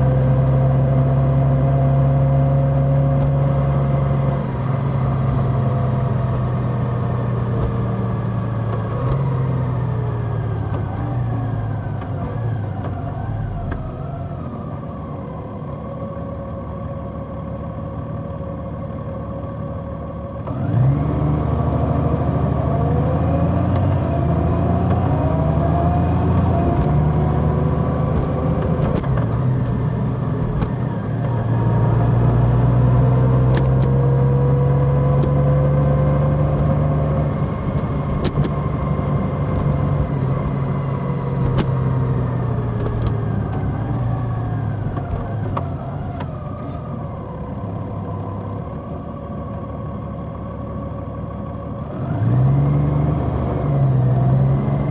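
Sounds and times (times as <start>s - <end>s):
motorcycle engine accelerating: 0.0s - 16.1s, 20.5s - 49.4s.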